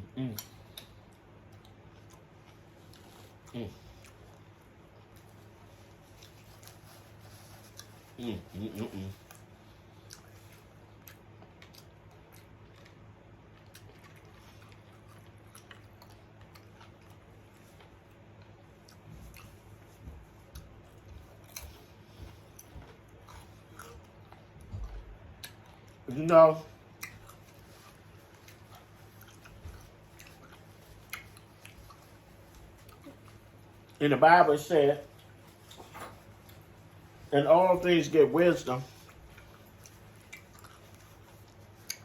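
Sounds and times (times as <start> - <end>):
person chewing food: 0.0 - 34.0, 35.0 - 37.9, 38.7 - 42.0.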